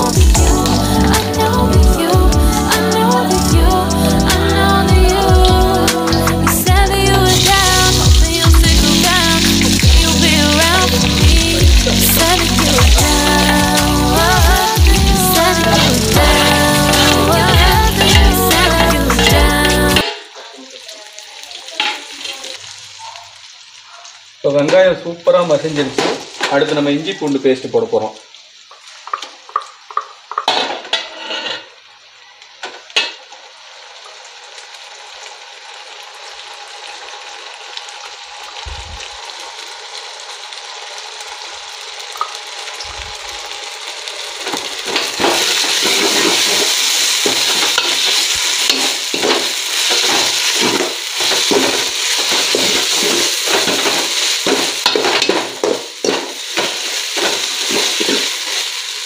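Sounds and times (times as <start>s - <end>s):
paste sizzling in hot oil: 0.0s - 59.0s.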